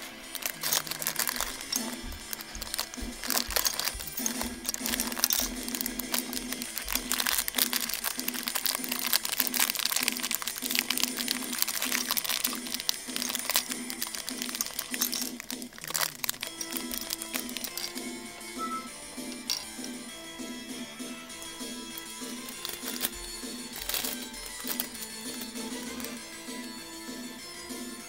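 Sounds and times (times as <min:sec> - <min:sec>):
plastic containers clicking together: 0:00.0 - 0:18.5, 0:19.2 - 0:20.0, 0:21.8 - 0:26.2
plastic bag crinkling: 0:00.0 - 0:18.6, 0:19.2 - 0:20.0, 0:21.4 - 0:26.4
soft background music: 0:00.0 - 0:28.0.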